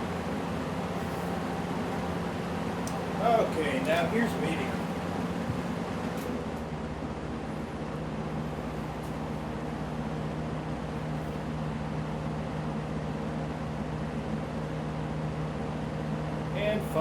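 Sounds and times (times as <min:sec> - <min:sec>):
low motor hum: 0:00.0 - 0:16.6
rush of fan air: 0:00.0 - 0:17.0.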